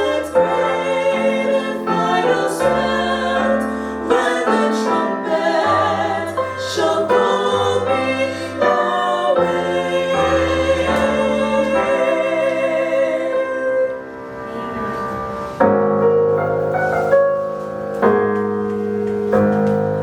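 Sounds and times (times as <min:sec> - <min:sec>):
gospel piano chords: 0:00.0 - 0:20.0.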